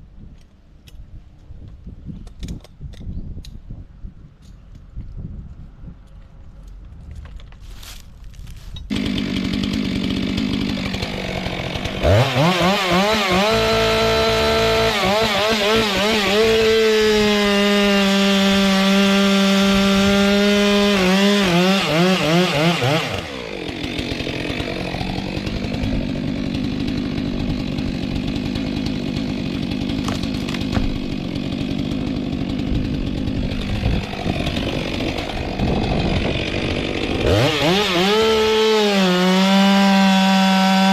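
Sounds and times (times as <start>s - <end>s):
chainsaw cutting wood: 7.9s - 40.9s.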